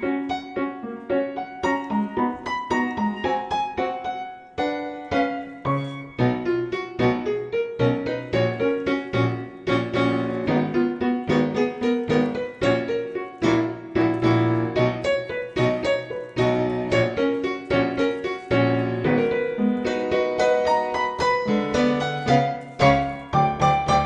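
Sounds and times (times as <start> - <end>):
lively piano music: 0.0 - 24.0.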